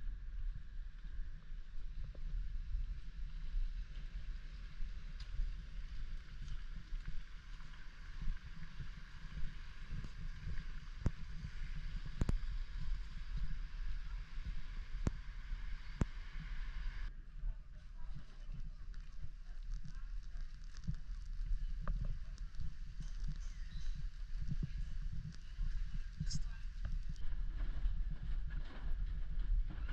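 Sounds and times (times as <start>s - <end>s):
boat engine rumble: 0.0s - 29.9s
wind: 0.0s - 29.9s.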